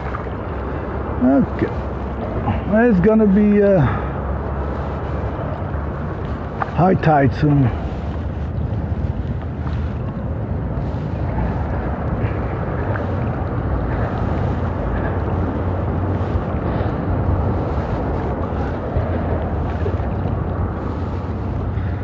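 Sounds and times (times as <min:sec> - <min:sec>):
water washing around kayak: 0:00.0 - 0:22.0
wind on microphone: 0:00.0 - 0:22.0.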